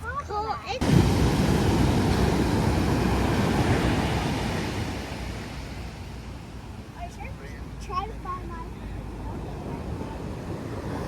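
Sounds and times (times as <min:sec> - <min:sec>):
ocean wave breaking: 0:00.7 - 0:11.0.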